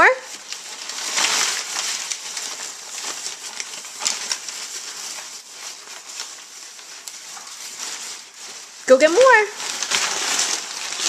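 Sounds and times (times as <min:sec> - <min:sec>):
packing paper crinkling and rustling: 0:00.0 - 0:11.0.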